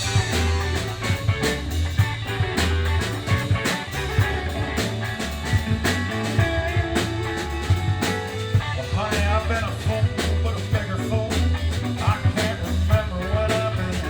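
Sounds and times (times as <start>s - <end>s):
bass guitar: 0.0s - 14.0s
drum kit beat: 0.0s - 14.0s
electric guitar: 0.0s - 14.0s.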